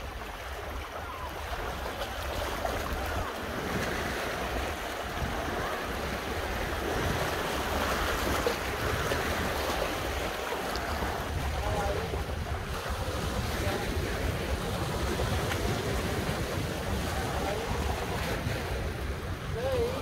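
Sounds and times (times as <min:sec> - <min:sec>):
sea waves on rocky shore: 0:00.0 - 0:20.0
wind rumbling on microphone: 0:00.0 - 0:20.0.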